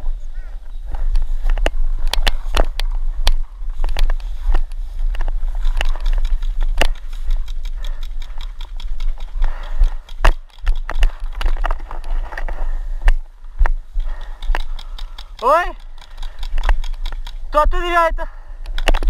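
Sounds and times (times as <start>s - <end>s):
grass rustling against camera: 0.0s - 19.0s
paintball markers popping: 1.1s - 12.2s, 13.0s - 17.6s, 18.7s - 19.0s.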